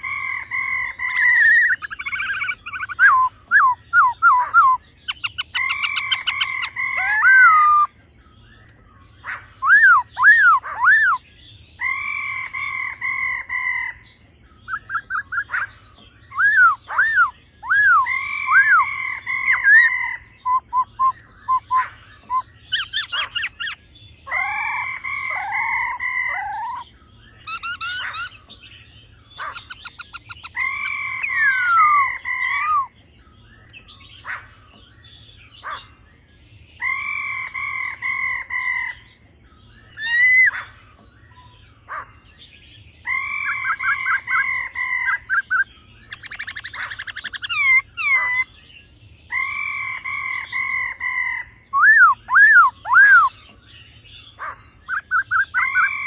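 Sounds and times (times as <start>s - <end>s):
bird whistling and trilling: 0.0s - 42.1s, 42.8s - 56.0s.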